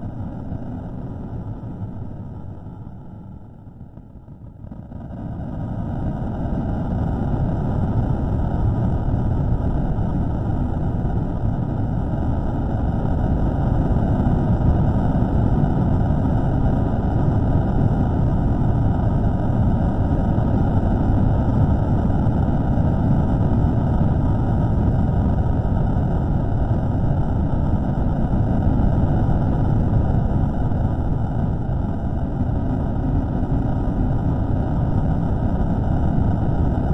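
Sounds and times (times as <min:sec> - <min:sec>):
steady low rumbling noise: 0:00.0 - 0:36.9.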